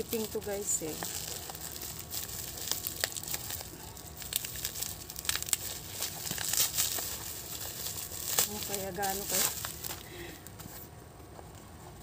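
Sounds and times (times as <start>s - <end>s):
plastic wrapping crinkling: 0.0s - 10.9s.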